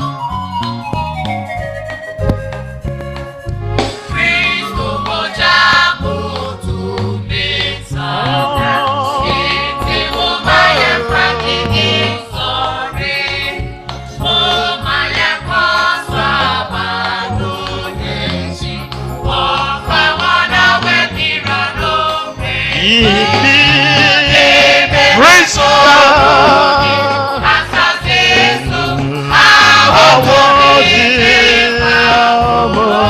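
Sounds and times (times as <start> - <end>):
steady bass beat: 2.2 - 33.0
gospel singing with vibrato: 4.0 - 33.0.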